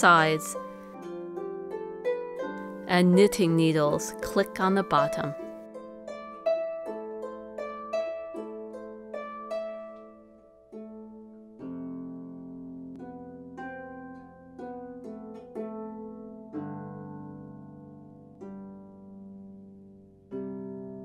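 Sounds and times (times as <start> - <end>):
plucked harp-like melody: 0.0 - 21.0.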